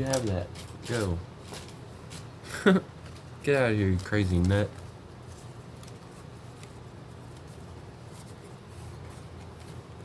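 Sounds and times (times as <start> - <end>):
cards being handled: 0.0 - 10.0
low room hum: 0.0 - 10.0.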